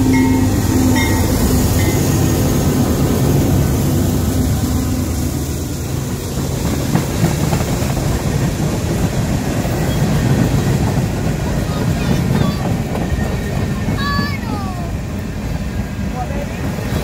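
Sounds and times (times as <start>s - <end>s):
diesel locomotive engines running: 0.0s - 17.0s
steel wheels rumbling on rails: 0.0s - 17.0s.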